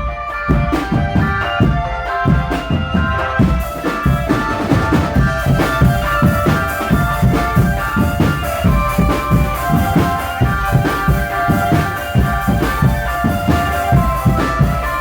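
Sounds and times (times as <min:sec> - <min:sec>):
band melody: 0:00.0 - 0:15.0
marching drums beating: 0:00.0 - 0:15.0.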